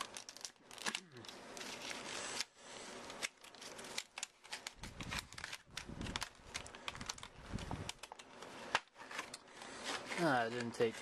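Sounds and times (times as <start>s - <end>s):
packaging clicks and crinkles: 0.0s - 11.0s.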